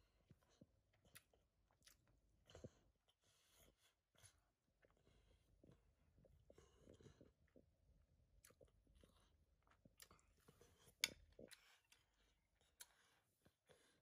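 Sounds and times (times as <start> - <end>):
chewing: 0.0 - 7.7, 8.4 - 14.0.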